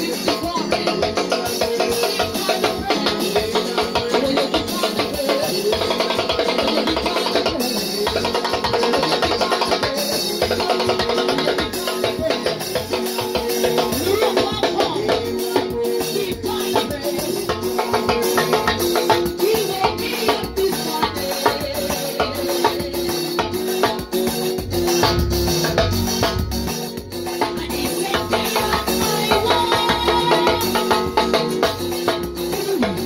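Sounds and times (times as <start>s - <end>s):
drum kit with cymbals: 0.0s - 33.0s
live band music: 0.0s - 33.0s.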